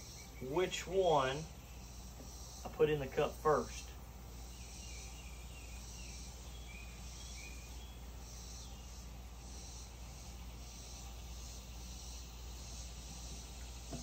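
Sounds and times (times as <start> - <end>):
faint insect chirps: 0.0 - 14.0
insects buzzing rhythmically: 0.0 - 14.0.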